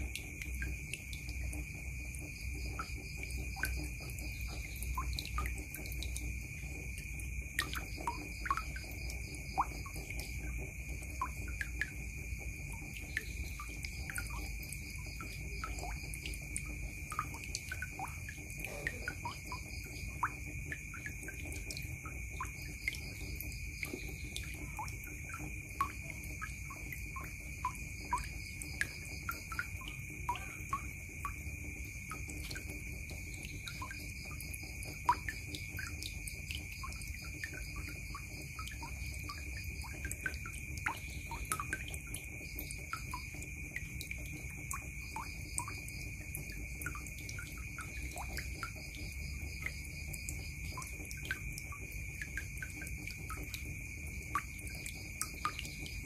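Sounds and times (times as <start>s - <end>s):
water dripping into bucket: 0.0s - 56.0s.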